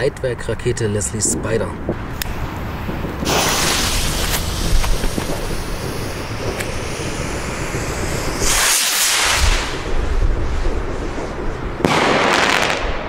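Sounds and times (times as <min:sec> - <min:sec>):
wind rumbling on microphone: 0:00.0 - 0:13.0
firework crack: 0:01.9 - 0:13.0
firework rocket hissing: 0:02.0 - 0:13.0.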